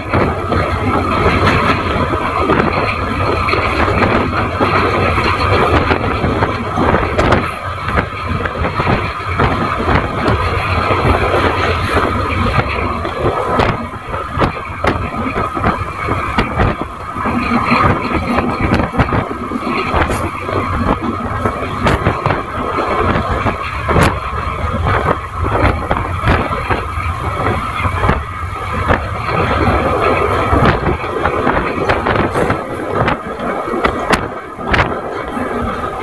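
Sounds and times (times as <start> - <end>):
train coaches rumbling: 0.0 - 36.0
wheels clattering on track: 0.0 - 36.0.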